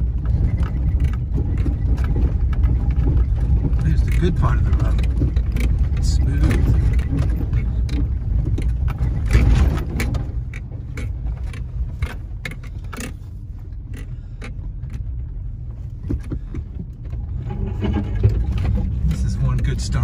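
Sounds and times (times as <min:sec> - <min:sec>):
vehicle engine and tyre rumble: 0:00.0 - 0:20.0
vehicle rattling over rocks: 0:00.0 - 0:20.0.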